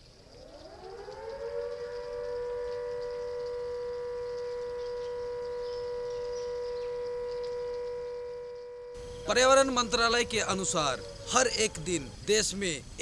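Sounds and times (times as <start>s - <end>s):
siren wailing: 0.3s - 12.4s.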